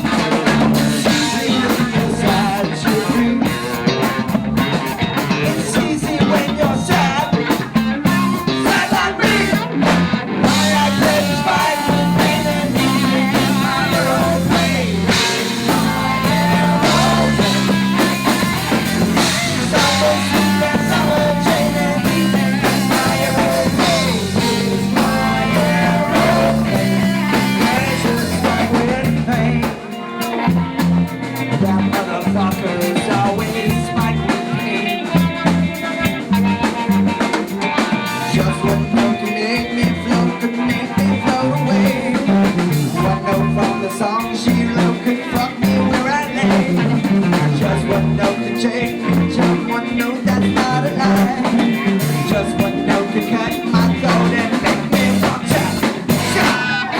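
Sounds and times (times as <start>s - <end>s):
drum kit: 0.0s - 56.9s
rock band music: 0.0s - 56.9s.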